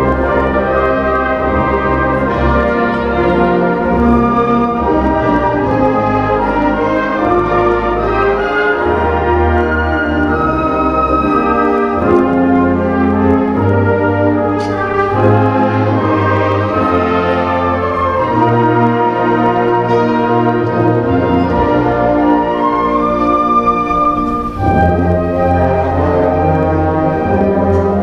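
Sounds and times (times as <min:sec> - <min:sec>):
concert band playing: 0:00.0 - 0:28.0.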